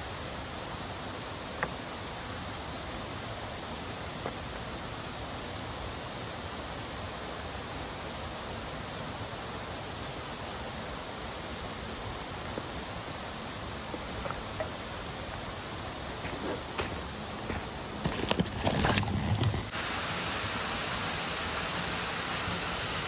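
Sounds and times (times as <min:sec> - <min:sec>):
mountain stream and waterfall rushing: 0:00.0 - 0:23.0.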